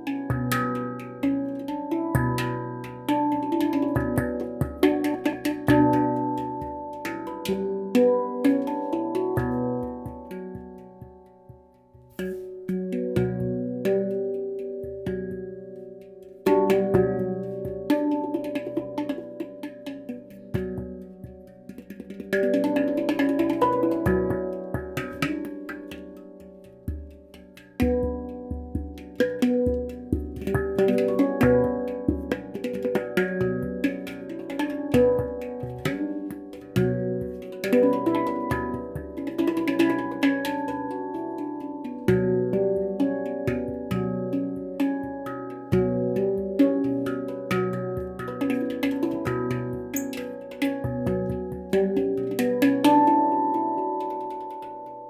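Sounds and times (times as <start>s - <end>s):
handpan played by hand: 0.0s - 55.0s.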